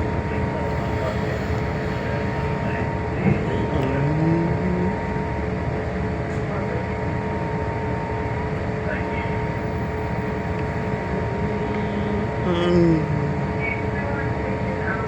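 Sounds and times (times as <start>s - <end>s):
bus engine rumble and whine: 0.0s - 15.0s.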